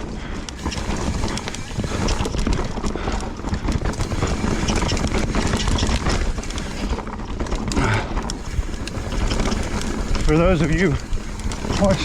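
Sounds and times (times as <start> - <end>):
bike clattering over bumps: 0.0 - 12.0
bike tyres rumbling on dirt: 0.0 - 12.0.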